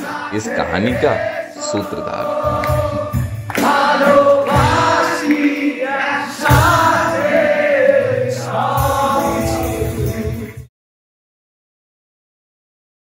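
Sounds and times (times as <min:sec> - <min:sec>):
singing voices: 0:00.0 - 0:10.7.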